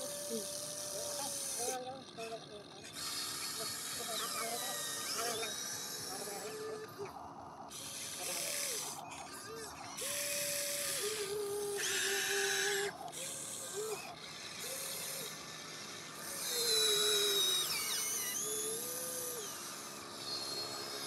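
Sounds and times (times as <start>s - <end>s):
toy excavator motors whining: 0.0s - 21.0s.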